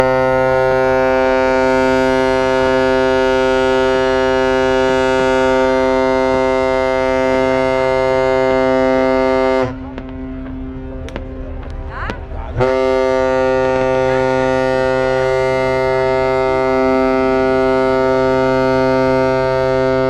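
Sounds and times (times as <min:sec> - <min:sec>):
ship's horn blast: 0:00.0 - 0:20.0.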